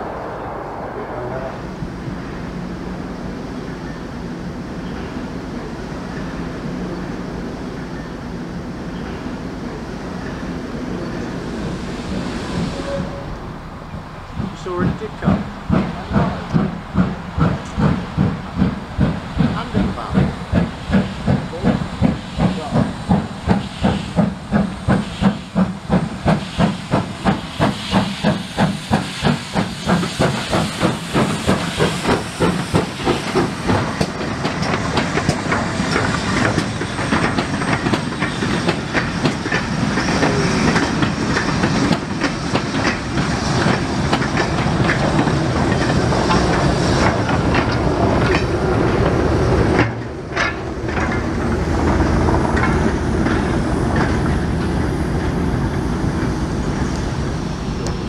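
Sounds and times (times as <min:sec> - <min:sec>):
loud hiss of steam: 0:00.0 - 0:49.8
steam locomotive exhaust beats: 0:00.0 - 0:58.0.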